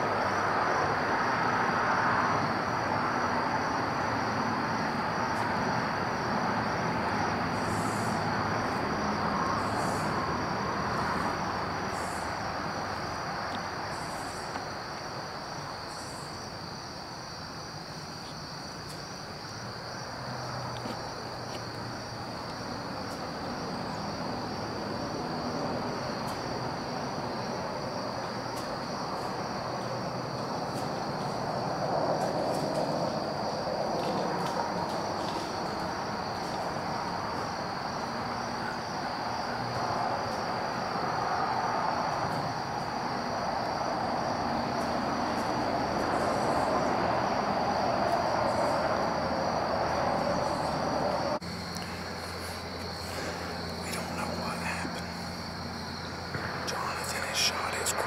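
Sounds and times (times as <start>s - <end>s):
crickets chorus: 0.0s - 58.0s.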